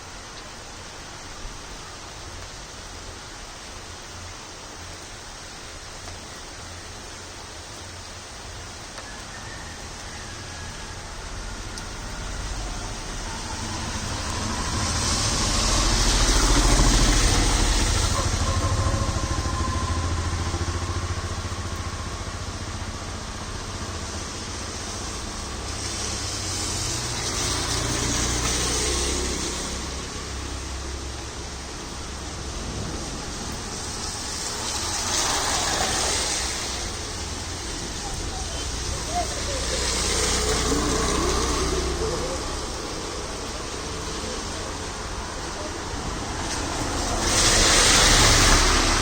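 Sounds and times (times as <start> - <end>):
tyres hissing on wet road: 0.0 - 49.0
vehicle engine rumble: 6.9 - 49.0.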